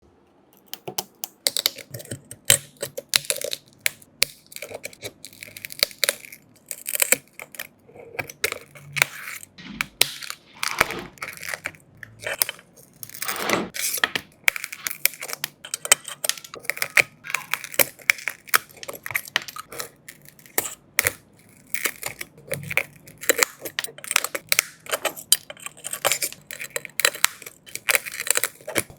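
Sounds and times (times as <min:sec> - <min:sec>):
small tools clicking and tapping: 0:00.6 - 0:10.4, 0:11.2 - 0:28.9
scraping and tearing: 0:01.6 - 0:28.9.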